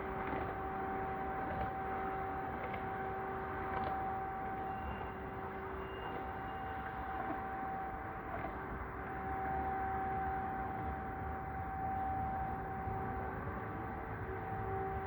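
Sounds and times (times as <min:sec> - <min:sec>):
distant air-raid siren: 0:00.0 - 0:15.0.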